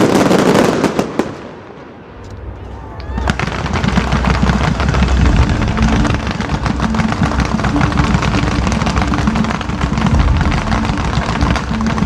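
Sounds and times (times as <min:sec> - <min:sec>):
fireworks bangs and crackles: 0:00.0 - 0:12.0
steady low rumble: 0:01.9 - 0:12.0.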